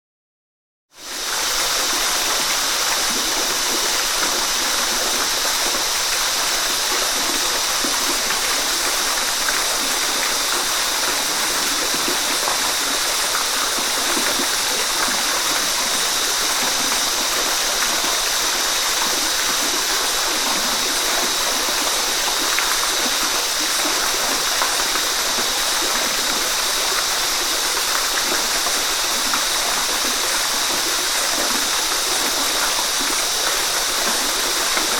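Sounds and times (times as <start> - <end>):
rain falling in forest: 1.0 - 34.9.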